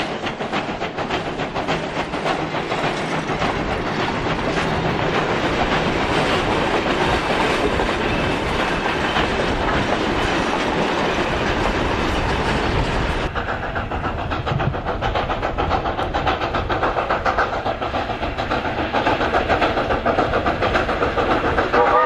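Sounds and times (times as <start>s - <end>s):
steam locomotive exhaust chuffs: 0.0s - 22.0s.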